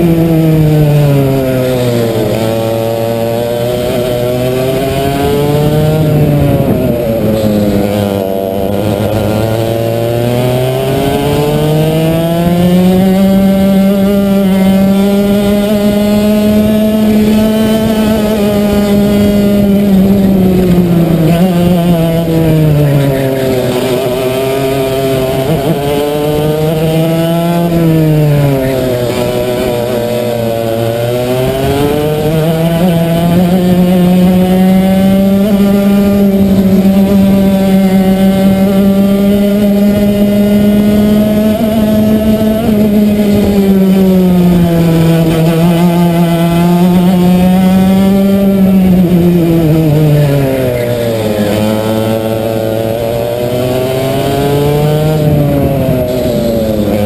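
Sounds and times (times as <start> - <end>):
kart engine: 0.0 - 57.0.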